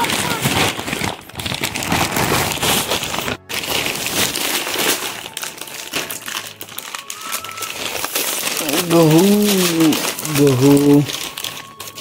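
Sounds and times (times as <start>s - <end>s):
plastic packets rustling: 0.0s - 12.0s.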